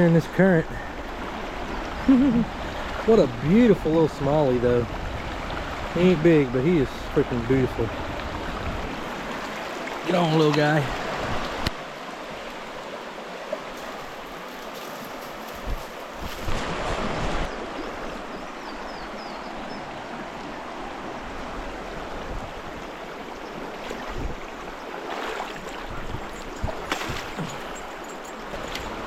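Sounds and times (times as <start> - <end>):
creek current rushing: 0.0 - 29.0.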